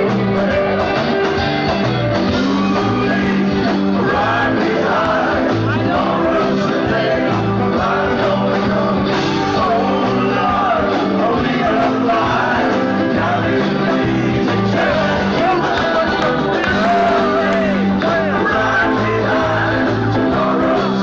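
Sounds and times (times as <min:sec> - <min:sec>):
live rock band playing: 0:00.0 - 0:21.0
person singing: 0:02.2 - 0:21.0.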